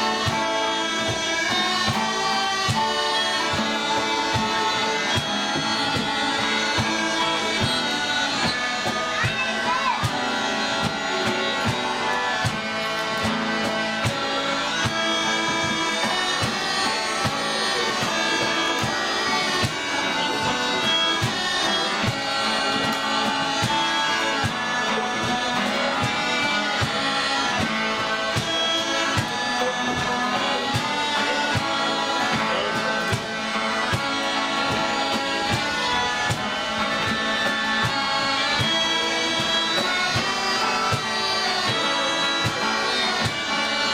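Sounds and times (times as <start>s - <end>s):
bagpipes with drone: 0.0s - 43.9s
fiddles: 0.0s - 43.9s
strummed acoustic guitars: 0.0s - 43.9s.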